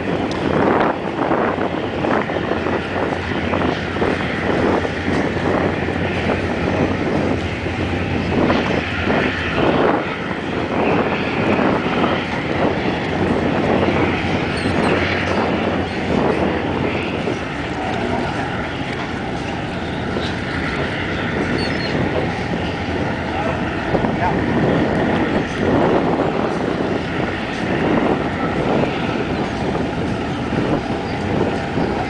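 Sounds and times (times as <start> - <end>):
boat engine drone: 0.0 - 32.0
wind buffeting microphone: 0.0 - 32.0.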